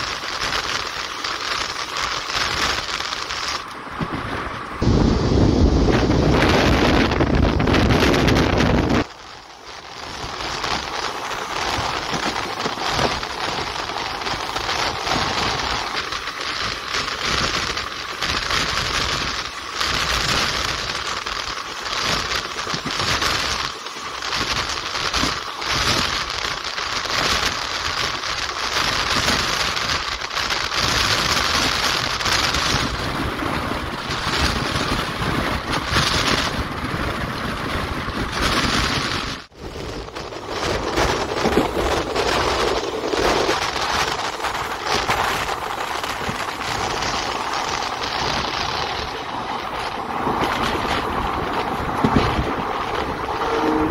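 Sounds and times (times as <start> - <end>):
air rushing past train: 0.0 - 53.9
train wheels on track: 0.0 - 53.9.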